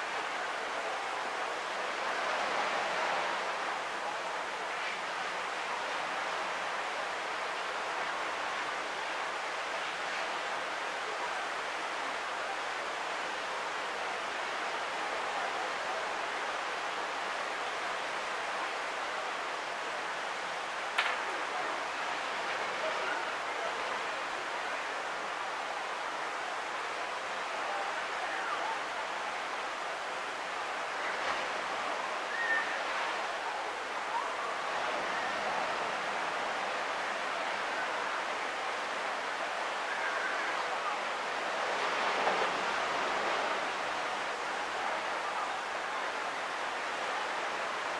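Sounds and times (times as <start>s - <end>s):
distant surf on beach: 0.0s - 47.9s.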